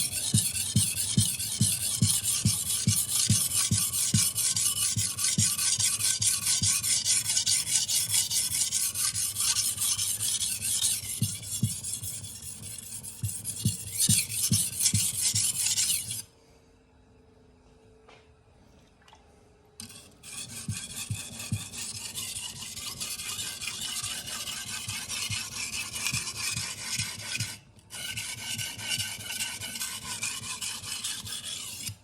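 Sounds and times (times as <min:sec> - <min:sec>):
knife scraping on whetstone: 0:00.0 - 0:16.2, 0:19.8 - 0:32.0.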